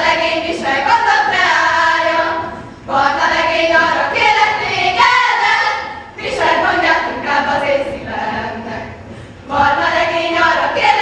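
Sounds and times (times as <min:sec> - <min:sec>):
girls singing unaccompanied: 0:00.0 - 0:11.0.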